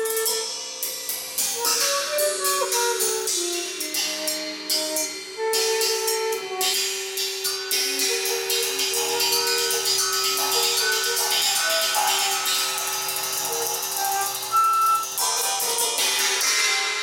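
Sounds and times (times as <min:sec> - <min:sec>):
drum kit cymbals and hi-hat: 0:00.0 - 0:17.0
held pitched notes: 0:01.4 - 0:17.0.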